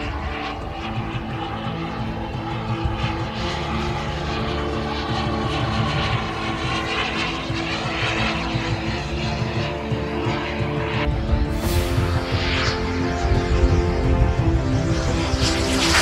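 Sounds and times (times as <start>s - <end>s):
jet turbine whine and rush: 0.0s - 16.0s.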